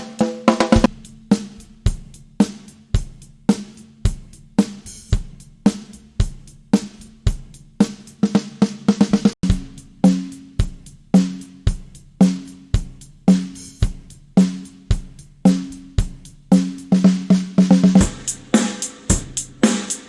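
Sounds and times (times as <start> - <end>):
drum fill: 0.0 - 20.0
bass drum: 0.6 - 8.4, 9.0 - 19.8.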